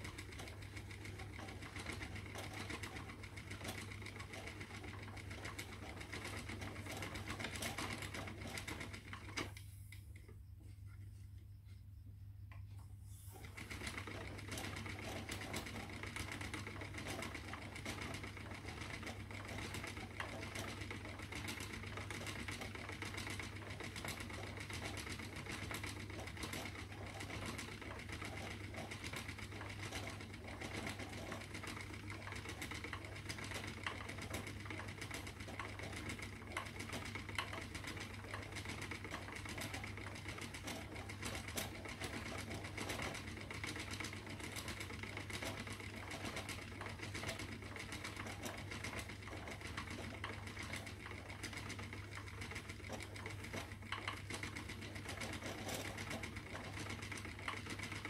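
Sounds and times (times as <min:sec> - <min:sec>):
spinning wheel whirring and clicking: 0:00.0 - 0:11.8, 0:12.4 - 0:58.0.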